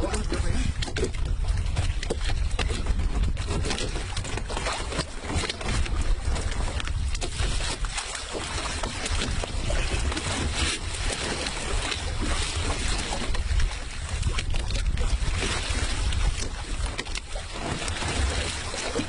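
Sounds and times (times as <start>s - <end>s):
water splashing against boat: 0.0s - 19.0s
wind buffeting microphone: 0.0s - 19.0s.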